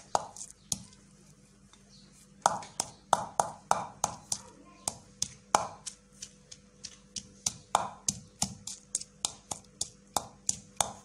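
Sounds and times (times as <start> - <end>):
wooden pestle pounding in mortar: 0.0 - 1.0, 2.4 - 11.0.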